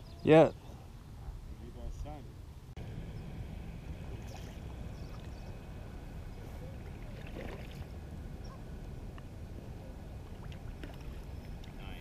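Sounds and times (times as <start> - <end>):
low wind rumble on microphone: 1.0 - 12.0.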